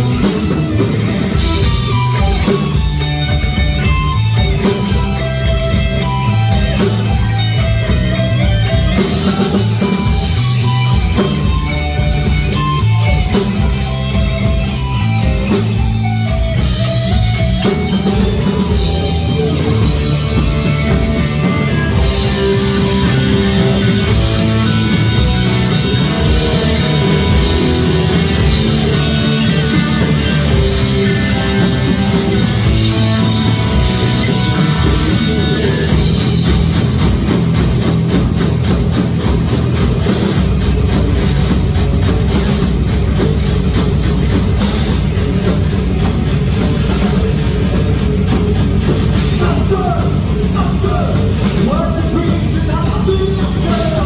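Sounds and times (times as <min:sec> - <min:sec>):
heavy metal music: 0:00.0 - 0:54.0.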